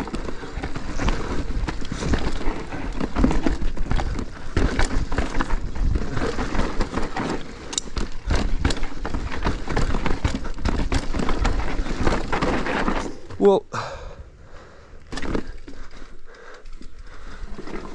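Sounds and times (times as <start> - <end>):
bike clattering over rocks: 0.0 - 13.4, 15.0 - 17.9.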